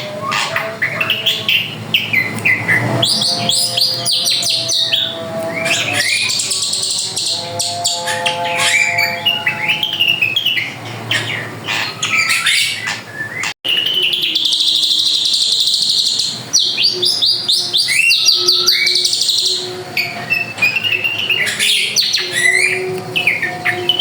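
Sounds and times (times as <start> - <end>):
bird singing whistles and trills: 0.0 - 24.0.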